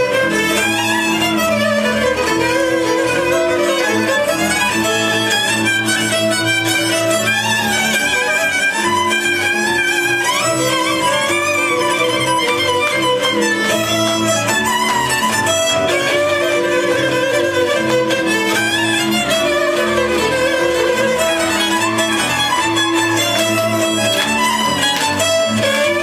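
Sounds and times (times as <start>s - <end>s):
fiddle-led folk dance music: 0.0s - 26.0s.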